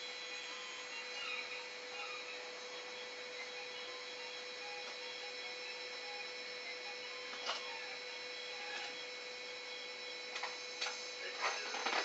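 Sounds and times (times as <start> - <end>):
printer mechanism humming: 0.0 - 12.0.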